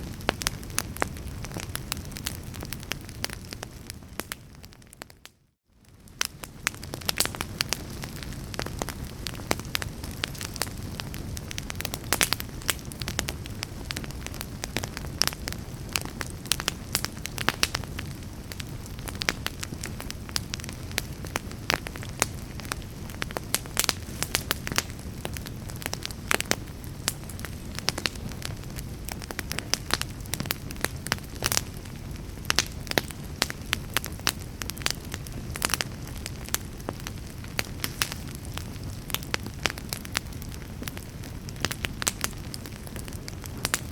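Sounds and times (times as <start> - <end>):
fire crackling and popping: 0.0 - 43.9
low rumble of flames: 0.0 - 43.9.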